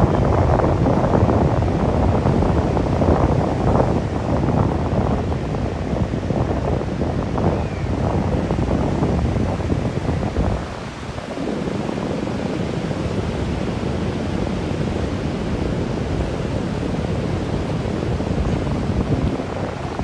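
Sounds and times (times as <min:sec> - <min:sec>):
surf breaking on shore: 0:00.0 - 0:20.0
wind buffeting microphone: 0:00.0 - 0:20.0.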